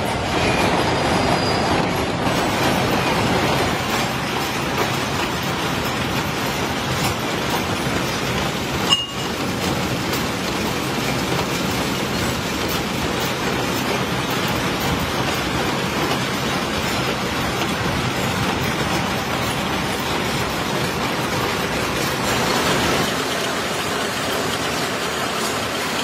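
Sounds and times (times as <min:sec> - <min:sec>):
machine cutting metal: 0:02.2 - 0:26.0.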